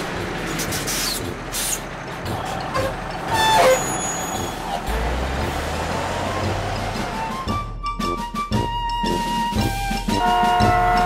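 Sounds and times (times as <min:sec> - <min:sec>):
cartoon truck engine running: 0:00.0 - 0:11.0.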